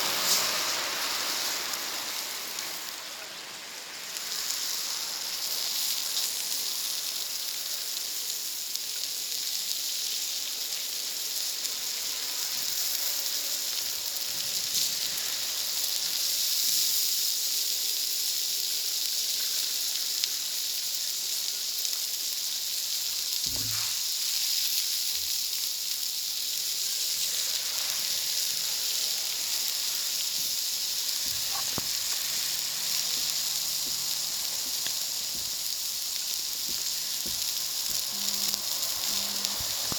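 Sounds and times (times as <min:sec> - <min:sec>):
faint crackling fire: 0:00.0 - 0:39.9
food sizzling on a griddle: 0:00.0 - 0:39.9.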